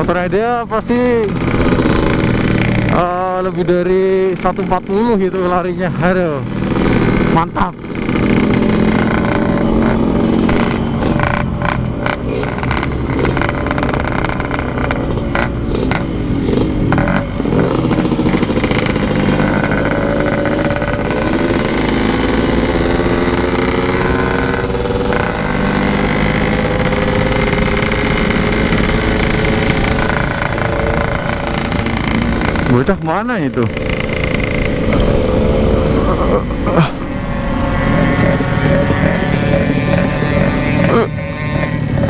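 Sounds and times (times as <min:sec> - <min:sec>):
two-stroke motorcycle engine revving: 0:00.0 - 0:42.0.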